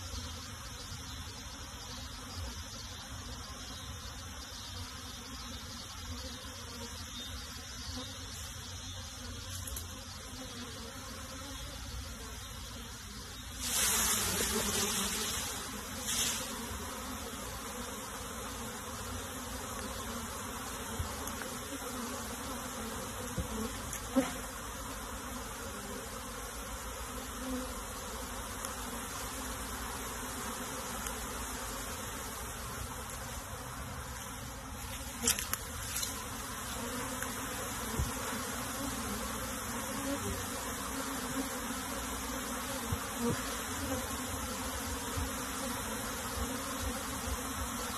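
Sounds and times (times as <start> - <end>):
bees buzzing: 0.0 - 47.9.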